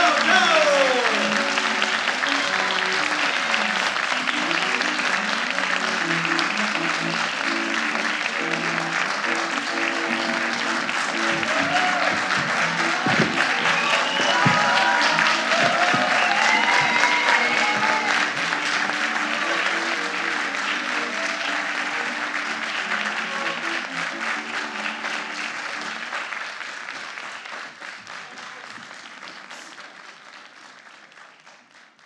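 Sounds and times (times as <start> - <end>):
music playing: 0.0 - 27.9
audience applauding: 0.0 - 32.0.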